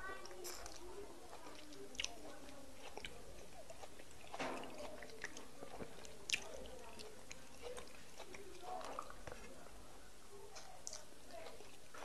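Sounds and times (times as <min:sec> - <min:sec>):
wet chewing: 0:00.0 - 0:09.7, 0:10.5 - 0:12.0.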